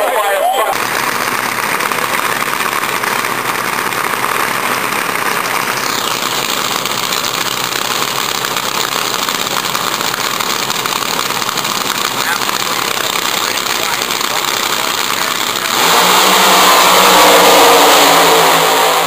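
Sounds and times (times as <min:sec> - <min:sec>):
race car engines idling: 0:00.0 - 0:19.0.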